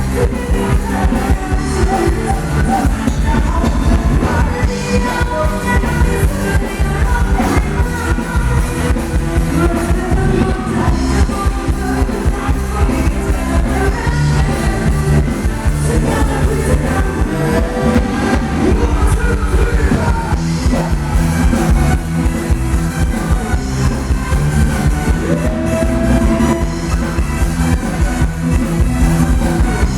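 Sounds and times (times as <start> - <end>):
live band dance music: 0.0 - 29.9
person singing: 0.0 - 29.9.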